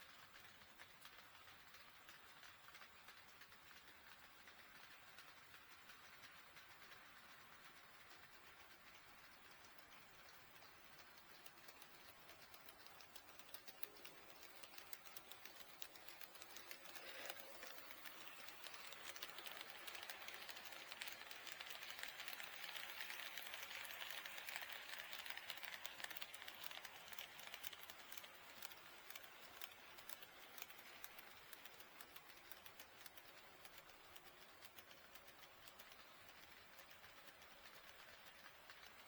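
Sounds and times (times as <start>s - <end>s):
model train wheels clicking: 0.0s - 39.0s.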